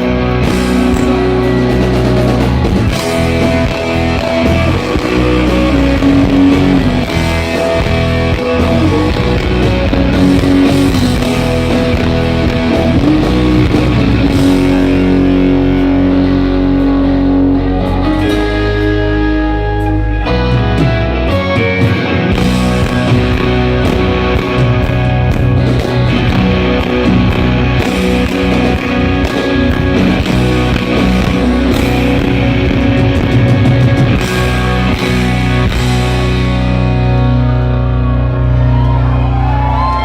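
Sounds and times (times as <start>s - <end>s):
electric guitar bending notes: 0.0s - 40.0s
rock band playing live: 0.0s - 40.0s.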